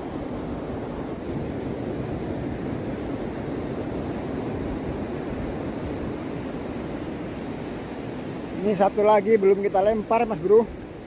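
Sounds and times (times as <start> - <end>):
sea surf breaking on beach: 0.0 - 11.0
wind rumbling on microphone: 0.0 - 11.0.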